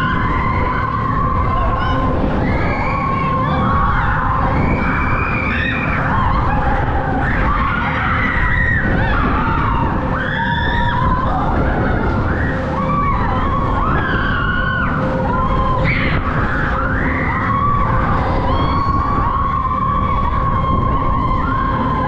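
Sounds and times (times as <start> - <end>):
ride machinery rumbling: 0.0 - 22.0
riders screaming and shouting: 0.0 - 22.0.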